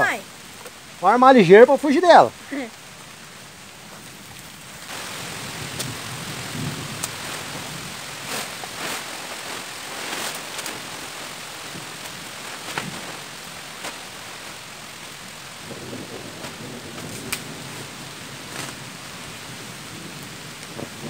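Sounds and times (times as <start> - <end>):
rain falling: 0.0 - 21.0
plastic tarp crackling: 3.8 - 21.0.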